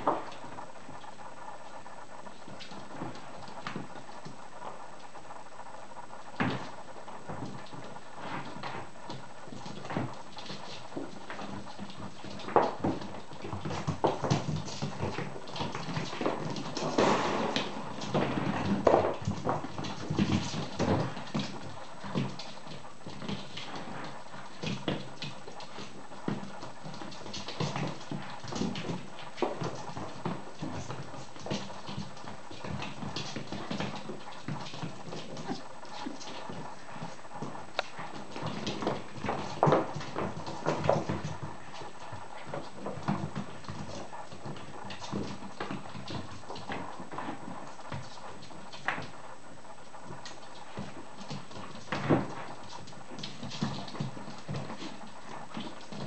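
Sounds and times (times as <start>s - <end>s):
paw taps and scrabbling: 0.0s - 56.0s.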